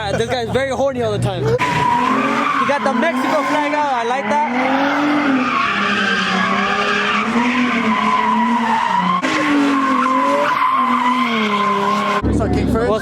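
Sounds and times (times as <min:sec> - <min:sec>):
high-revving car engine: 0:01.3 - 0:13.0
tyres squealing: 0:01.4 - 0:12.2.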